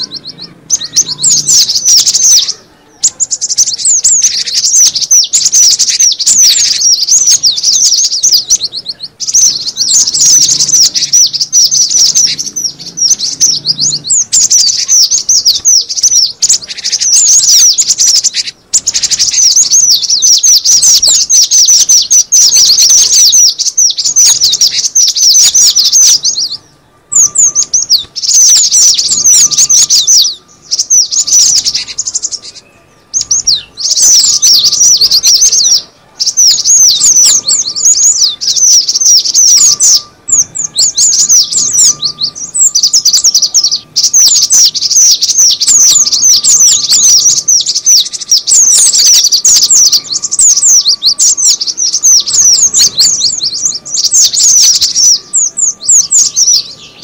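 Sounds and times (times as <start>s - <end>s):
bird calling in rapid chirps: 0.0s - 57.0s.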